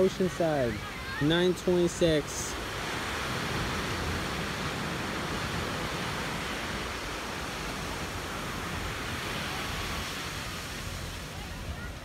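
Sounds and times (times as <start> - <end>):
ocean surf breaking on sand: 0.0 - 12.0.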